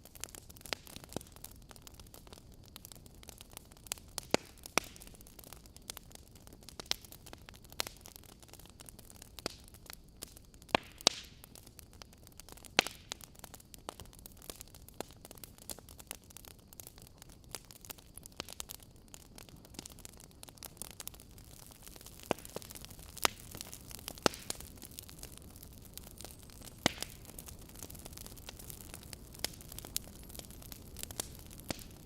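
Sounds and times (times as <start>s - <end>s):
fire crackling and popping: 0.0s - 32.0s
fire hissing: 0.1s - 32.0s.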